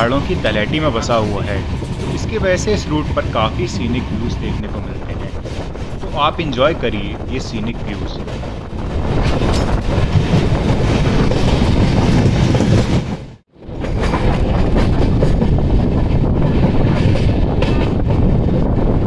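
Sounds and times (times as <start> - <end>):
train wheels clattering over rails: 0.0 - 19.0.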